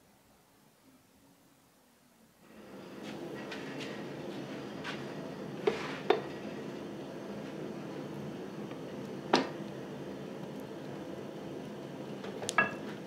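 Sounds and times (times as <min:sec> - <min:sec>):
forge humming: 0:02.4 - 0:13.0.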